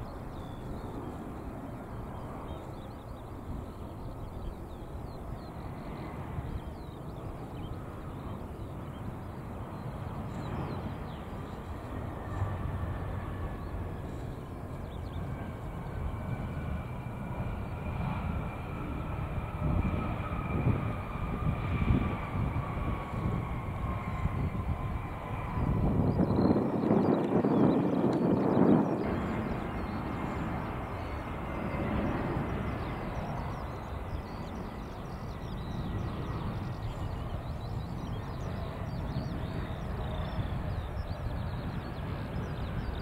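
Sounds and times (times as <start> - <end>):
jet engine noise: 0.0 - 43.0
turbofan whine: 0.4 - 43.0.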